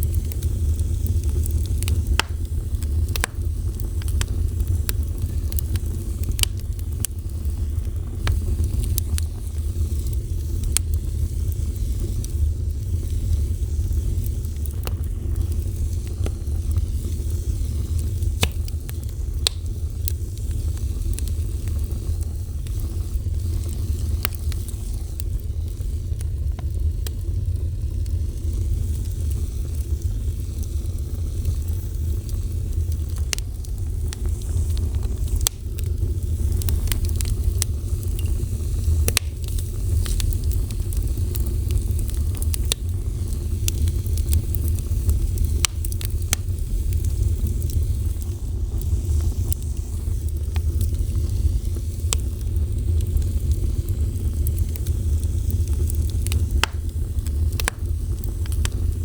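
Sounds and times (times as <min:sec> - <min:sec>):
fire crackling and popping: 0:00.0 - 0:59.0
fire flames rumbling: 0:00.0 - 0:59.0.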